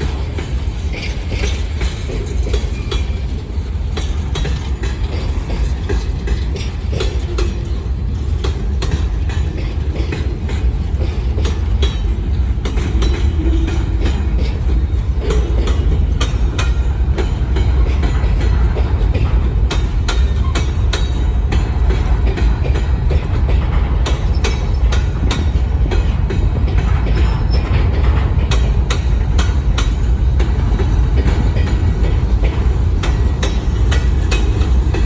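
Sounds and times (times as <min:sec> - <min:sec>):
wheel clicks over rail joints: 0:00.0 - 0:35.0.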